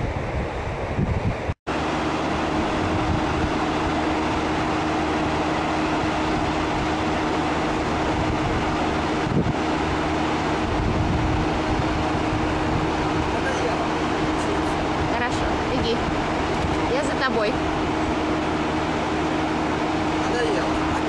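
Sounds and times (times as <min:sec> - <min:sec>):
ship machinery hum: 0:00.0 - 0:21.0.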